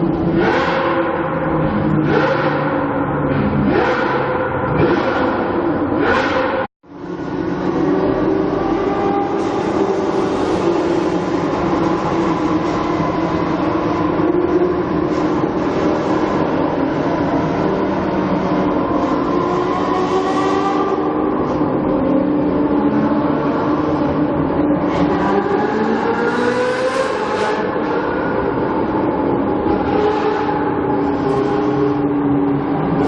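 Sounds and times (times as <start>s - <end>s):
car engine droning: 0.0s - 33.0s.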